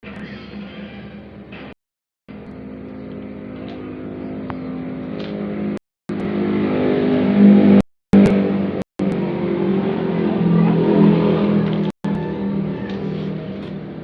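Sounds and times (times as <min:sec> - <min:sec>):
mechanical drone: 0:00.0 - 0:14.0.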